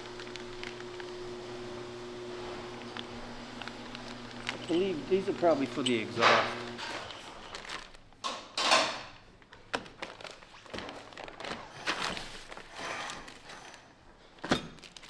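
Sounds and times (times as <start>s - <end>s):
packaging rustling: 0.0s - 1.2s, 2.6s - 8.2s, 9.1s - 15.0s.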